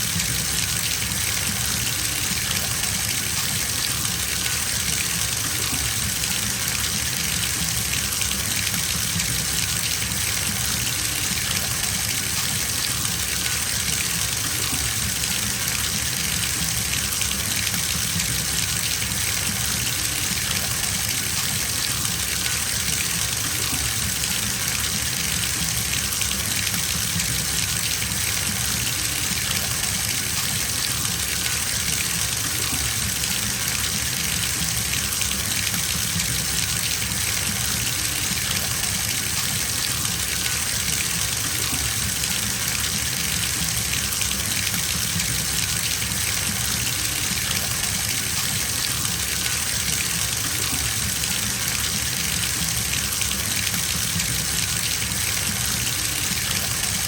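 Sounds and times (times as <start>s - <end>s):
tap water gushing into tub: 0.0s - 57.0s.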